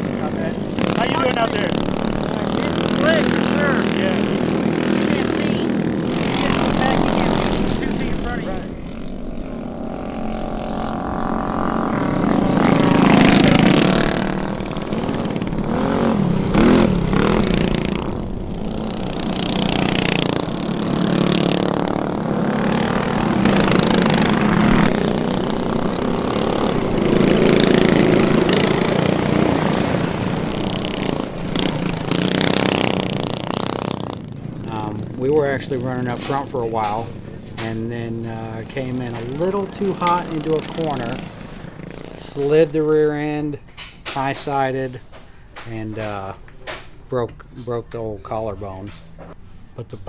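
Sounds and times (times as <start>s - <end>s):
minibike engines revving: 0.0s - 50.0s.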